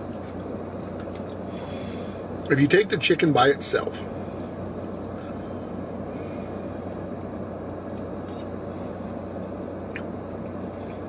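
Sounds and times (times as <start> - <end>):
vehicle hum inside cabin: 0.0 - 11.0.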